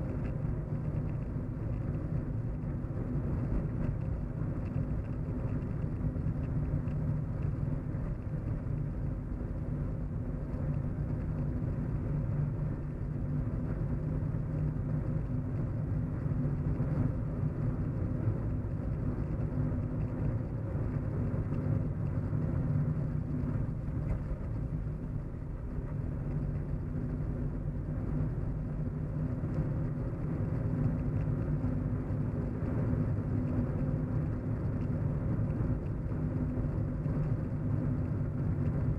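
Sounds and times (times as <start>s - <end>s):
car interior engine drone: 0.0s - 38.9s
tyres rumbling on road: 0.0s - 38.9s.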